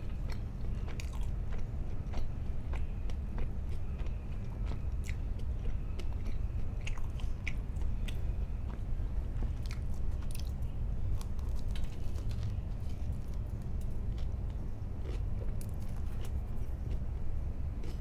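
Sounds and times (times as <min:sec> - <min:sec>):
chewing and biting bread: 0:00.0 - 0:18.0
steady low hum: 0:00.0 - 0:18.0.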